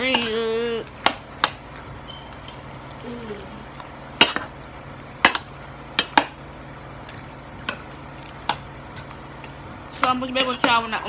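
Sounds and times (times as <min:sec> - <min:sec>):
spoon stirring thick pasta: 0:00.0 - 0:11.0
washing machine humming: 0:00.0 - 0:11.0.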